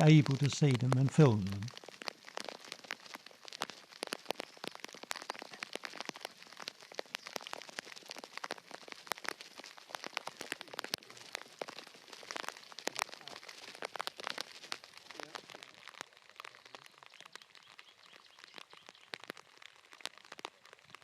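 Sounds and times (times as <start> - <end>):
rain falling: 0.0 - 21.0
raindrops hitting near microphone: 0.0 - 21.0.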